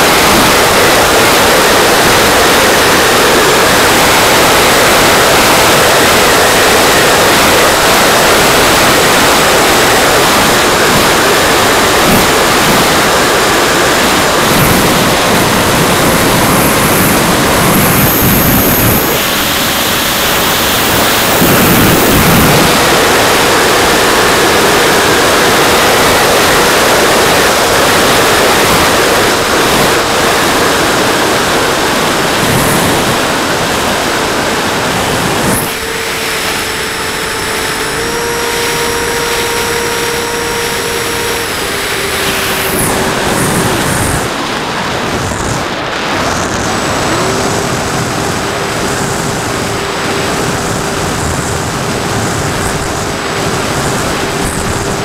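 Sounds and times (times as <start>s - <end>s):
electric motor and propeller whine: 0.0s - 55.0s
wind rush on microphone: 0.0s - 55.0s.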